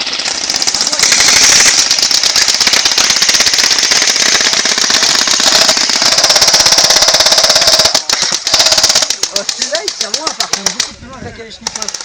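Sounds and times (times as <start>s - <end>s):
airsoft gun firing full-auto: 0.0s - 10.8s.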